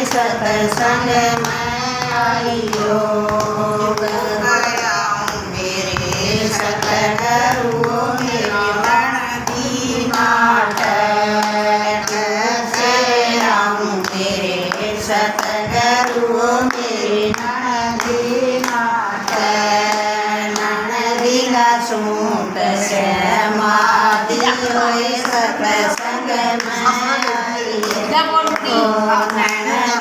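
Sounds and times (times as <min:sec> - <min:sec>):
hand claps: 0:00.0 - 0:30.0
women singing devotional song: 0:00.0 - 0:30.0.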